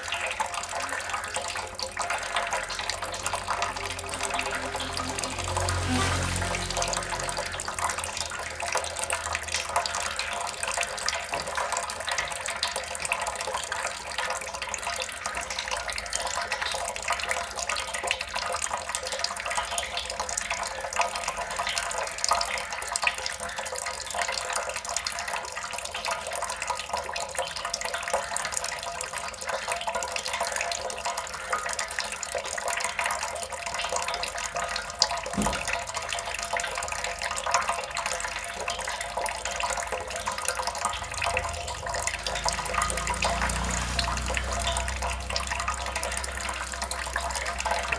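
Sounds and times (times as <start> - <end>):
water dripping and trickling: 0.0 - 47.9.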